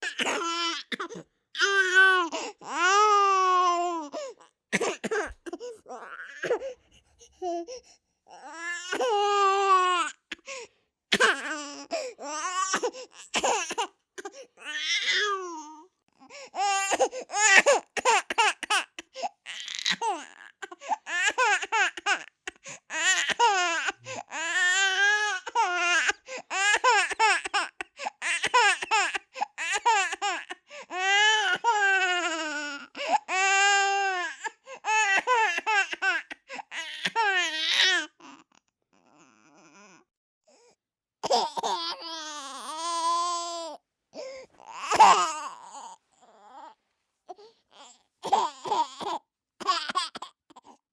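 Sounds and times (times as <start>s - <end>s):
baby crying: 0.0s - 6.8s, 8.3s - 10.4s, 11.2s - 15.9s, 16.6s - 38.4s, 41.2s - 46.8s, 47.7s - 50.8s.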